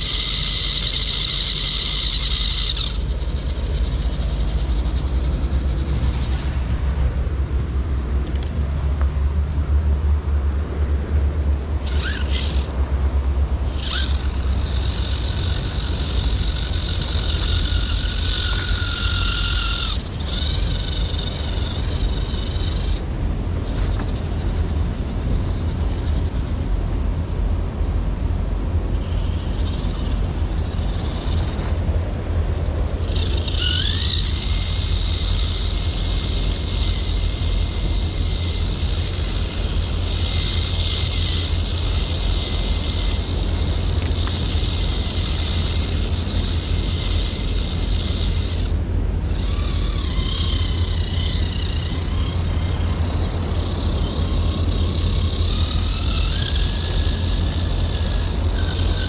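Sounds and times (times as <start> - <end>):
rc car motor whine: 0.0 - 7.2, 11.7 - 26.8, 28.8 - 59.0.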